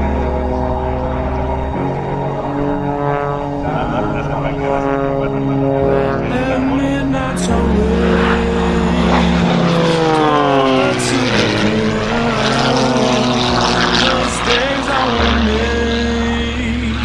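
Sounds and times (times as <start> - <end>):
background music with bass line: 0.0 - 17.0
propeller aircraft flying past: 0.0 - 17.0.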